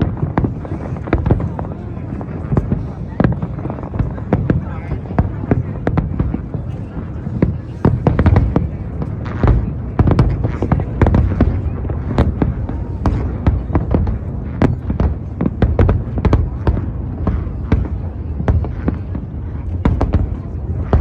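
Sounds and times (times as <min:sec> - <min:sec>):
fireworks banging: 0:00.0 - 0:21.0.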